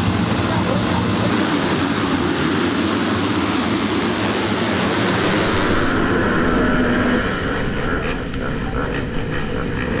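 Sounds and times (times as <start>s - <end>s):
motocross bikes revving: 0.9s - 10.0s.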